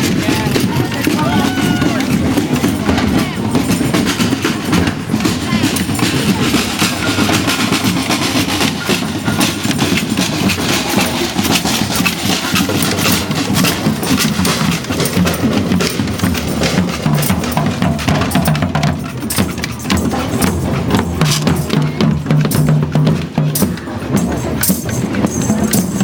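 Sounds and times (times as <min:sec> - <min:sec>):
marching band drums: 0:00.0 - 0:26.0.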